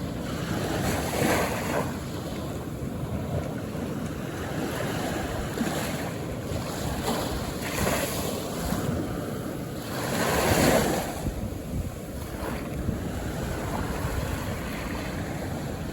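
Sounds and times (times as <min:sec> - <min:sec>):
small waves breaking on beach: 0:00.0 - 0:15.9.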